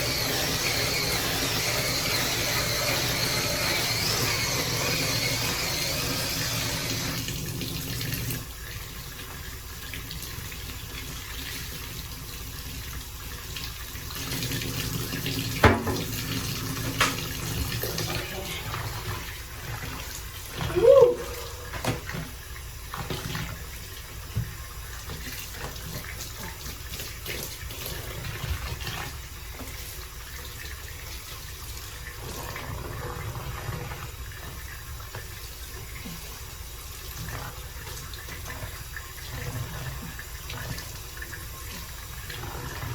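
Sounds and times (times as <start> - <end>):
tap water running into sink: 0.0 - 42.9.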